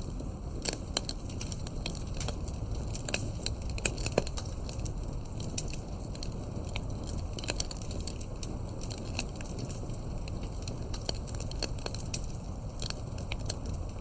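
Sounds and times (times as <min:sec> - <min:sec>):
campfire crackling and popping: 0:00.0 - 0:14.0
low steady rumble: 0:00.0 - 0:14.0.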